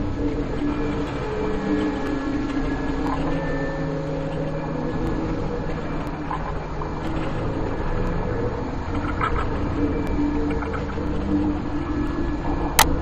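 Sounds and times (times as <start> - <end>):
dark ambient drone: 0.0 - 13.0.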